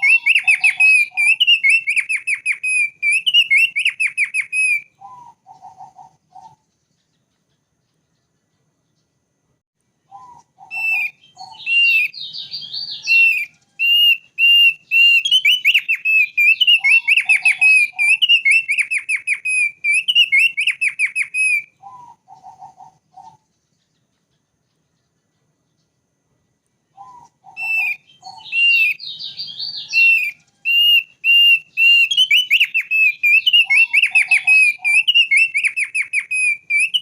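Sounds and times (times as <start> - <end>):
bird singing whistled trills: 0.0 - 9.1, 10.0 - 25.9, 26.9 - 37.0.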